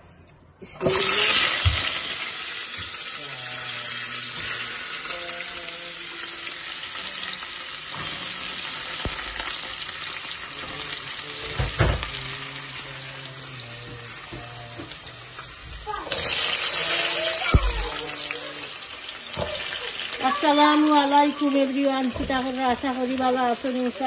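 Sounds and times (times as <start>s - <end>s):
onions sizzling in hot oil: 0.8s - 24.0s.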